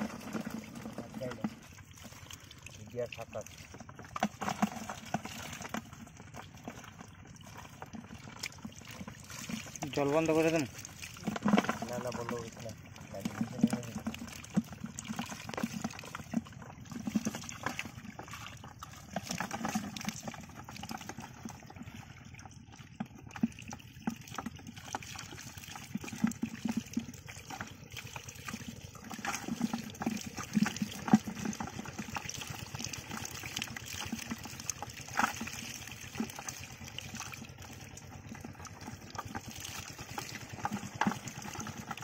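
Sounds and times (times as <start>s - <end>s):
trickle of running water: 0.0s - 42.0s.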